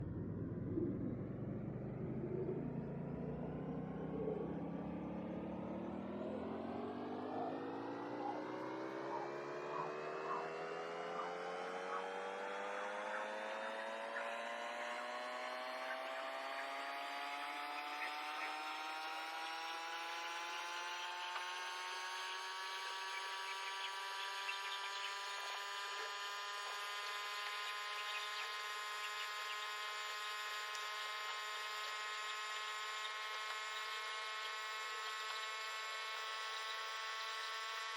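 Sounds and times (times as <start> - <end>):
motor whir rising in pitch: 0.0 - 37.9.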